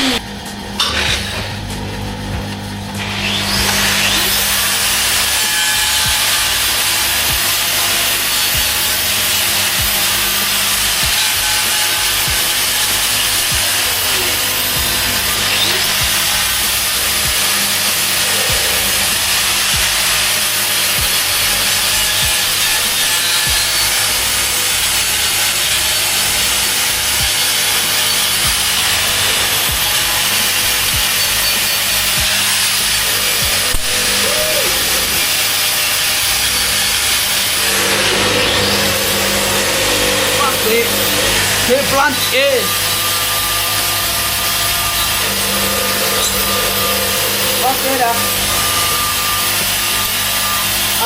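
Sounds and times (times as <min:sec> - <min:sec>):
bench grinder grinding metal: 0:00.0 - 0:51.0.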